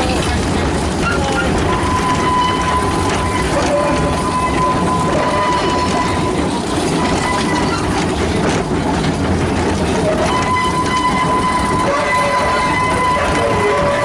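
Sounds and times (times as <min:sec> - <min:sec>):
model train running on track: 0:00.0 - 0:14.0.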